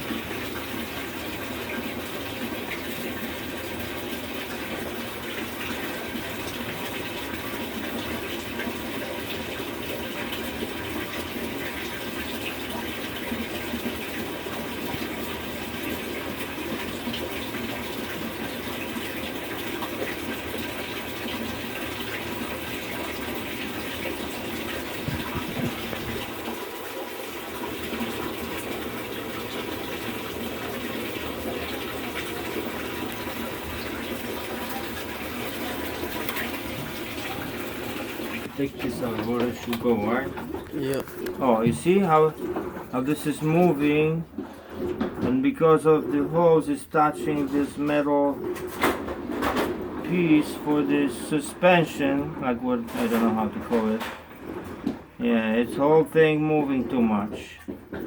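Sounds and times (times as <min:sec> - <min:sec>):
water filling washing machine: 0:00.0 - 0:58.0.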